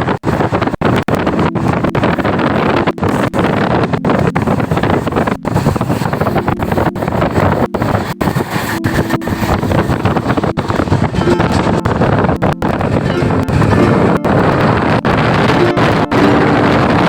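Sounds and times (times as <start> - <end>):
wind buffeting microphone: 0.0 - 17.0
moving train running noise: 1.3 - 17.0.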